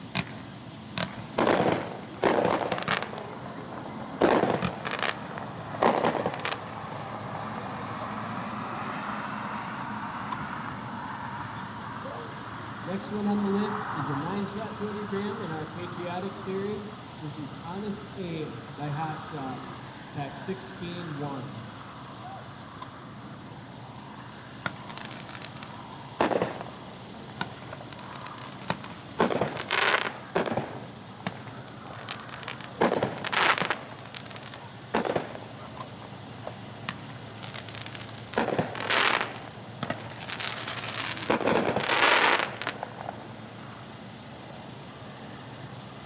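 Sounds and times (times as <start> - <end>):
fireworks bangs: 0.0 - 8.1, 11.3 - 44.1.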